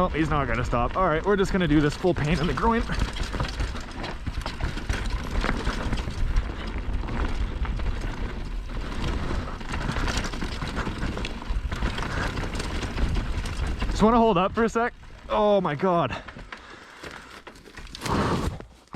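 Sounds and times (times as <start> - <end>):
bike chain and frame rattling: 0.0 - 18.3
bike tyres crunching over rocks: 0.0 - 18.9.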